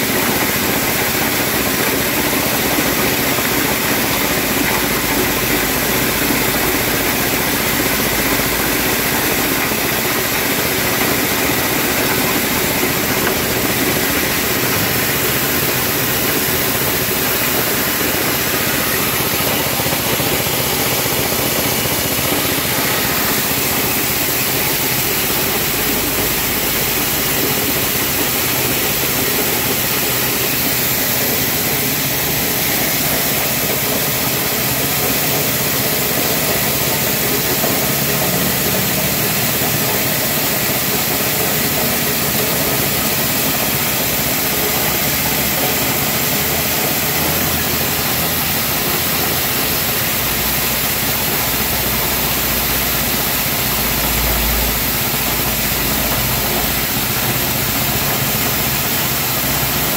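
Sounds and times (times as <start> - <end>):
blower fan rushing air: 0.0 - 59.9
small petrol engine running: 0.0 - 59.9.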